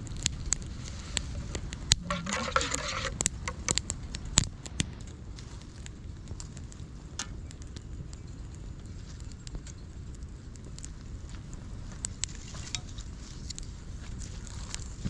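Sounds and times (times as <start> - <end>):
light clicks and crackles: 0.0 - 15.0
wind buffeting microphone: 0.0 - 15.0.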